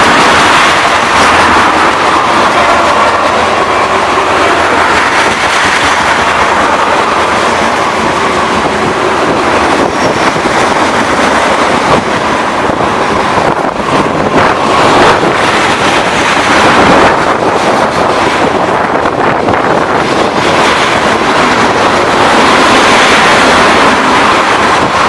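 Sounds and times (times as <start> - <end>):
train wheels rushing on rail: 0.0 - 25.0
wind buffeting microphone: 0.0 - 25.0.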